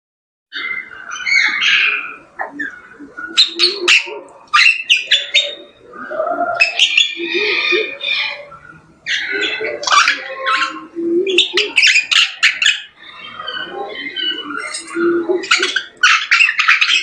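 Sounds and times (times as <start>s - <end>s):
birds chirping and squawking: 0.5s - 17.0s.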